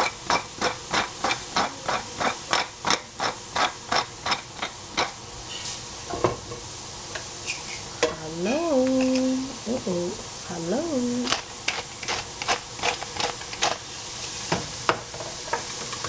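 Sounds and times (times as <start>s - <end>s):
crisp stirring strokes in pan: 0.0s - 16.0s
faint sizzle: 0.0s - 16.0s.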